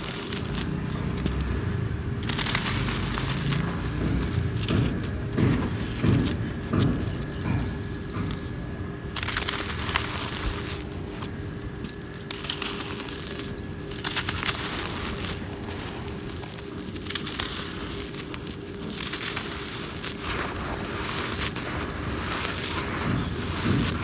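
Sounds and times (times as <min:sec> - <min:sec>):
cement crumbling between hands: 0:00.0 - 0:24.0.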